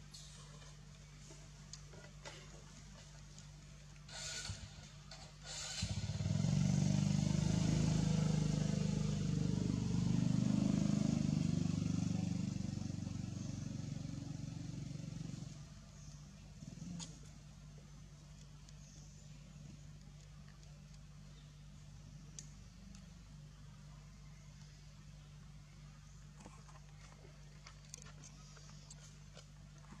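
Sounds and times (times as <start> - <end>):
vehicle engine running: 5.8 - 30.0.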